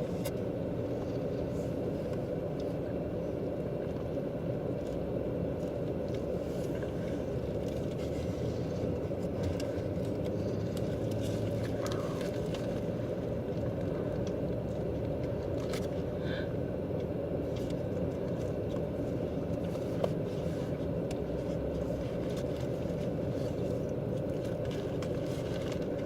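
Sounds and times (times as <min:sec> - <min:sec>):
car interior rumble: 0:00.0 - 0:26.0.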